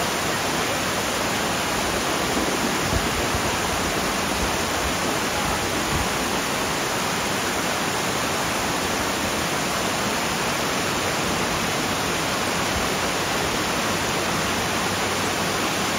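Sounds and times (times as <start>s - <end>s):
stream rushing over rocks: 0.0s - 15.9s.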